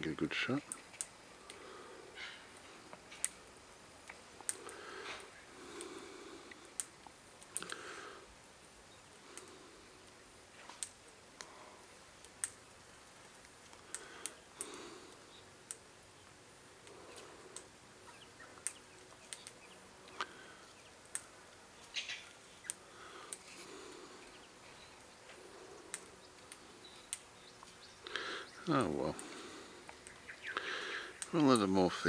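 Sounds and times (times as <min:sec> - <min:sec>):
soft low bird calls: 0:00.0 - 0:10.4, 0:11.4 - 0:32.0.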